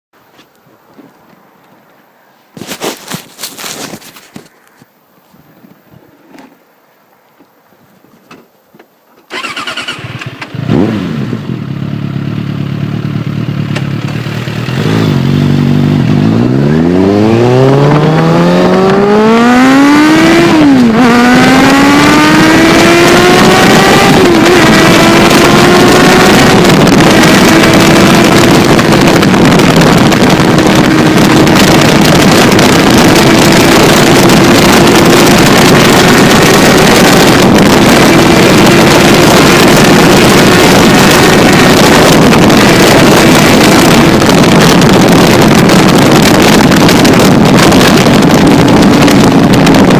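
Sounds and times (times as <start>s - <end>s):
wind noise: 0.2s - 49.9s
motorcycle engine revving: 9.3s - 49.9s.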